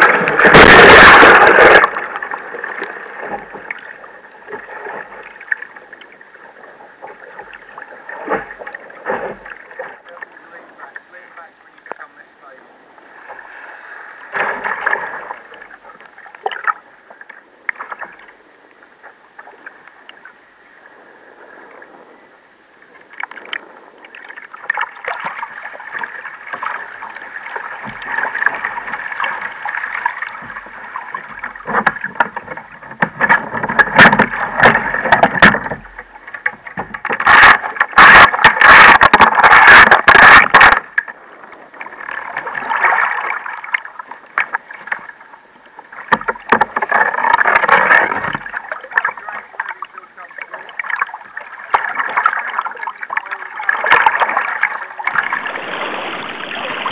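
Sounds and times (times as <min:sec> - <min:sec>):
water slapping against kayak hull: 0:00.0 - 0:12.2, 0:13.1 - 0:18.4, 0:23.0 - 0:56.9.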